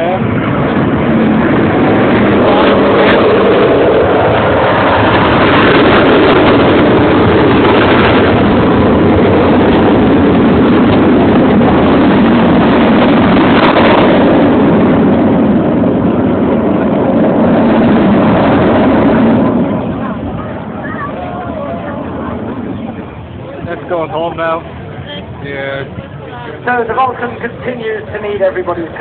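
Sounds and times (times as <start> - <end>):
jet engines in flight: 0.0 - 29.0.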